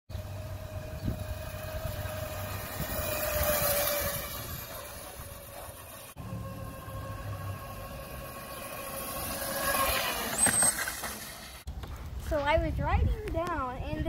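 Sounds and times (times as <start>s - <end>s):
mini motorbike motor whine: 0.1s - 11.7s.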